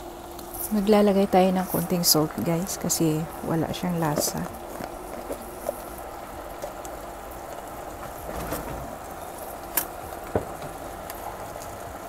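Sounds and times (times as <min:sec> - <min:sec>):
broth bubbling and sizzling: 0:00.0 - 0:12.0.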